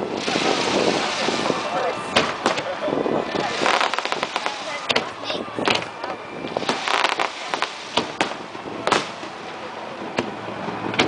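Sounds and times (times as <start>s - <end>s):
fireworks bursting: 0.0s - 10.8s
background haze noise: 0.0s - 11.0s.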